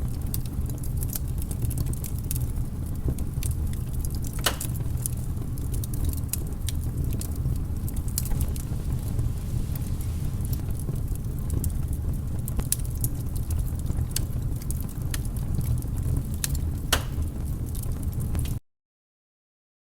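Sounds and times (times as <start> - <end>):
campfire flames rumbling: 0.0 - 18.6
fire crackling and popping: 0.0 - 18.6.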